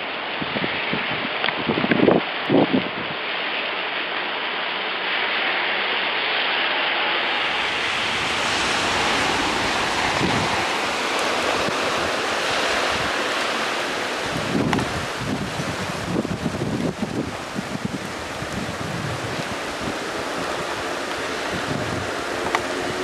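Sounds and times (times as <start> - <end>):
rain falling steadily: 0.0 - 23.0
wind rumble on microphone: 0.4 - 3.2, 7.3 - 23.0.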